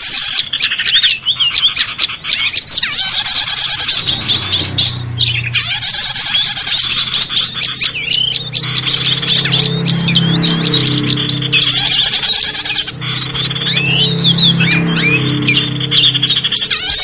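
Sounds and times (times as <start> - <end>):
small birds chirping and twittering: 0.0 - 17.0.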